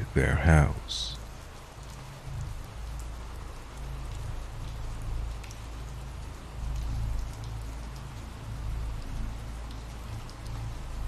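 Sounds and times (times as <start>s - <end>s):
raindrop ticks: 0.0s - 11.0s
steady rainfall: 0.0s - 11.0s.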